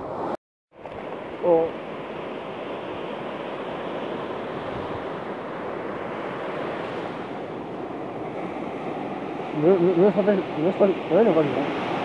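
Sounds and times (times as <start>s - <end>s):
sea surf washing onto beach: 0.1s - 12.0s
wind buffeting microphone: 2.1s - 12.0s.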